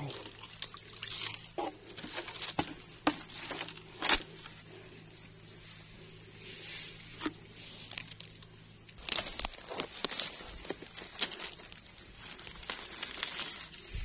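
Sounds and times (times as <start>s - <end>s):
dry leaves rustling and crackling: 0.0s - 5.2s, 6.7s - 14.0s.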